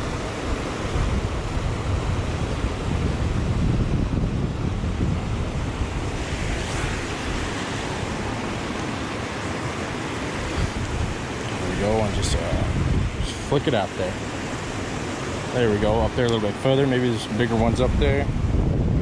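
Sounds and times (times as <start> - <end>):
creek rushing: 0.0 - 18.6
wind buffeting microphone: 0.0 - 19.0.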